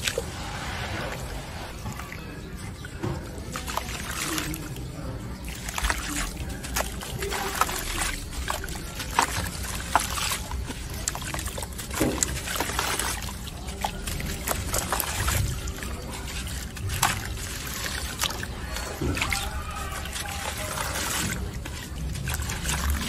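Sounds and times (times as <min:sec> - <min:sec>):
water sloshing and trickling: 0:00.0 - 0:23.0
wet grit crunching and crackling: 0:00.0 - 0:23.0.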